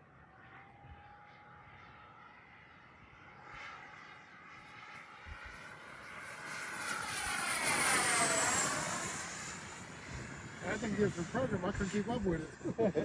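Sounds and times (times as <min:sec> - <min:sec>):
model jet fans whining: 0:00.0 - 0:13.0.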